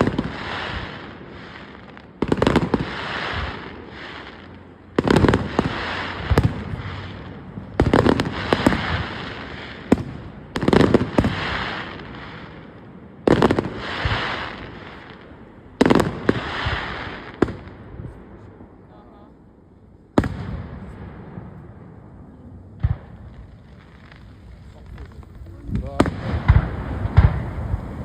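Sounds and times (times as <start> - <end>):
fireworks bursting: 0.0 - 19.2, 20.0 - 28.0
crackle and echo: 0.0 - 28.0.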